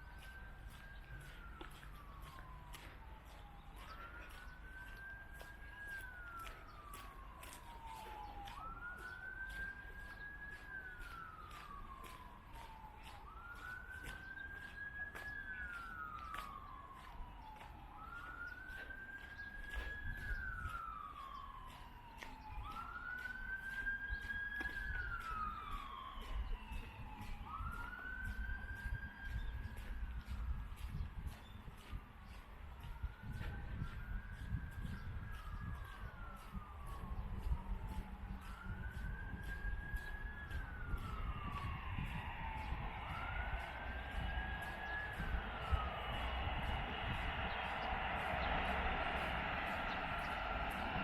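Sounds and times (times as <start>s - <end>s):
emergency siren wailing: 0.0s - 51.0s
fainter higher siren: 0.0s - 51.0s.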